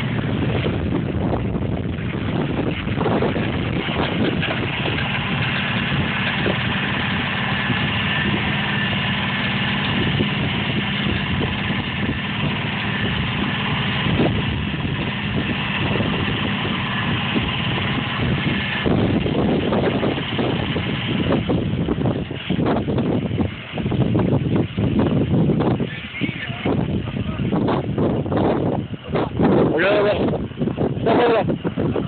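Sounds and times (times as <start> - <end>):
engines running with low hum: 0.0 - 32.0.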